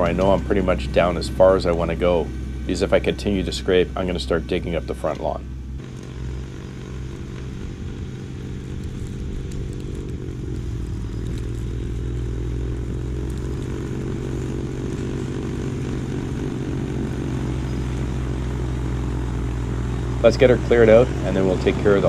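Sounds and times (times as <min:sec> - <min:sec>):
snowblower throwing snow: 0:00.0 - 0:22.0
tractor diesel engine running: 0:00.0 - 0:22.0.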